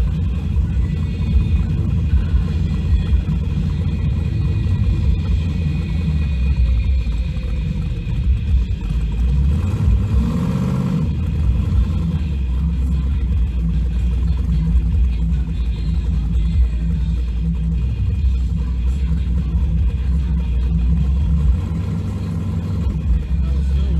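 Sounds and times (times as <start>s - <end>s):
truck engine rumbling: 0.0s - 23.9s.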